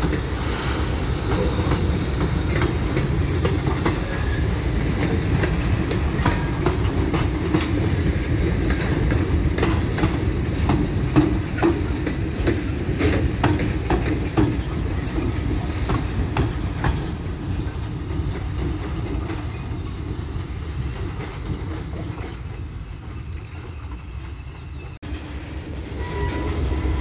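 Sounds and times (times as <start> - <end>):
locomotive rumbling past: 0.0 - 27.0
wheels clacking over rail joints: 1.1 - 27.0.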